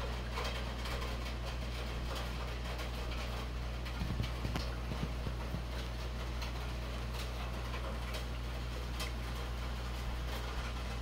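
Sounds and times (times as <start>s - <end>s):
heavy rain rushing: 0.0s - 11.0s
raindrops ticking close by: 0.0s - 11.0s.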